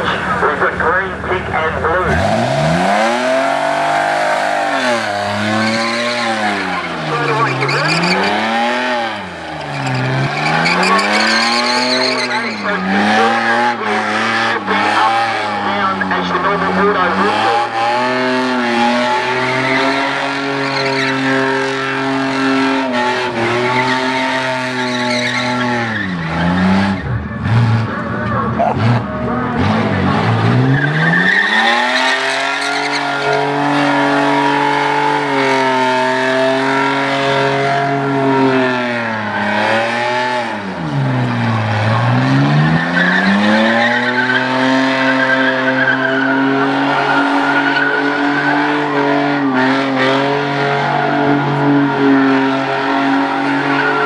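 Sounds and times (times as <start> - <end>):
car engine at high revs: 0.0 - 54.0
tyres screeching: 1.9 - 54.0.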